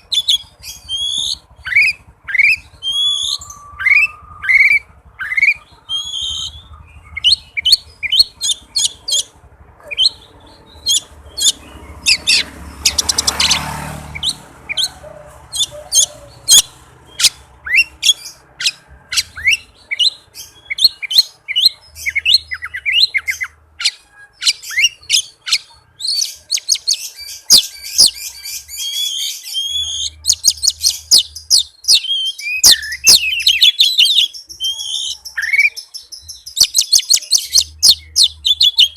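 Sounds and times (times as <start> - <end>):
bird singing chirps and whistles: 0.0 - 14.9, 15.5 - 38.9
harsh rasping bird call: 0.0 - 38.9.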